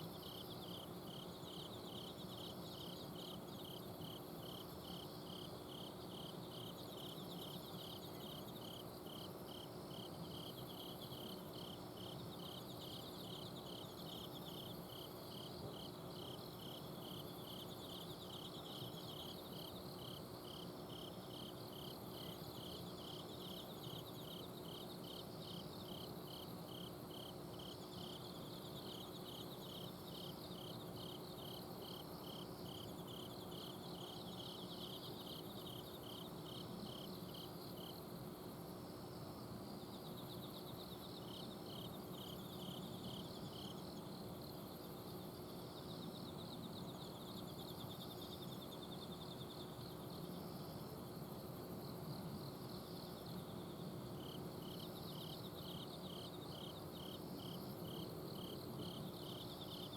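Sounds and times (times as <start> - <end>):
cricket chirping in pulses: 0.0 - 59.9.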